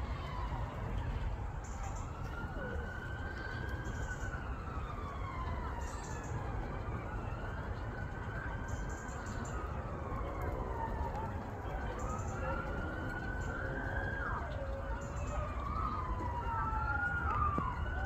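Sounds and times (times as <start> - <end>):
emergency siren wailing: 0.0 - 18.0.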